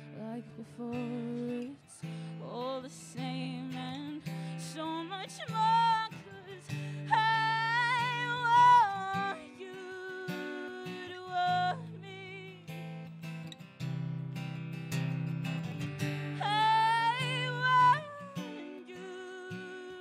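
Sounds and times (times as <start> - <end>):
woman singing: 0.0 - 13.0, 16.0 - 20.0
strummed acoustic guitar: 0.0 - 20.0.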